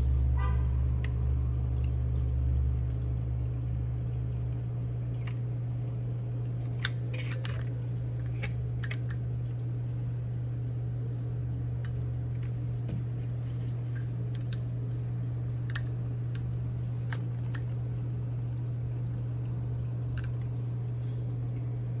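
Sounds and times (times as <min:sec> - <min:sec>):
aquarium pump humming: 0:00.0 - 0:22.0
water dripping: 0:00.0 - 0:22.0
water trickling: 0:00.0 - 0:22.0.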